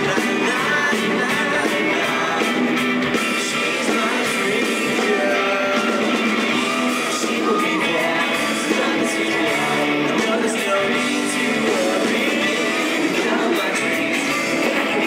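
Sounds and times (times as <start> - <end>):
electric guitar: 0.0 - 15.0
live pop-rock band: 0.0 - 15.0
person singing: 0.0 - 15.0.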